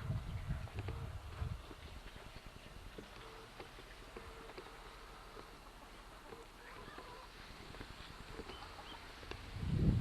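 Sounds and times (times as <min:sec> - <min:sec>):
tape hiss: 0:00.0 - 0:10.0
hens calling: 0:00.9 - 0:09.6.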